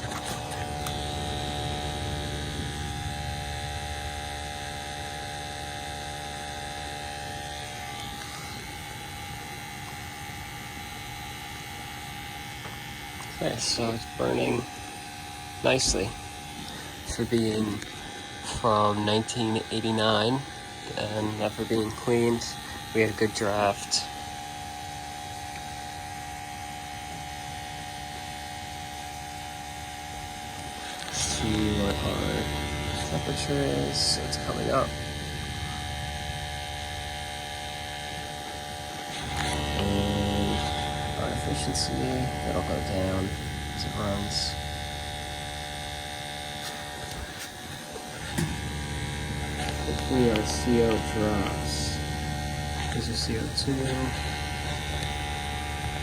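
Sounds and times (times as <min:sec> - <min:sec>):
gas boiler humming: 0:00.0 - 0:56.0.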